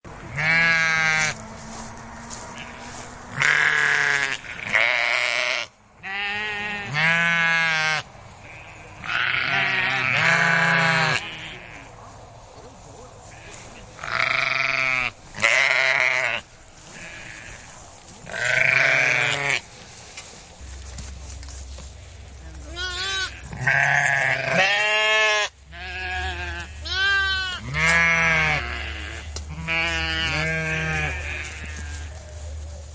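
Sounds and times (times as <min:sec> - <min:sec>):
sheep bleating: 0:00.3 - 0:01.4, 0:02.3 - 0:11.9, 0:13.2 - 0:19.6, 0:22.6 - 0:32.1.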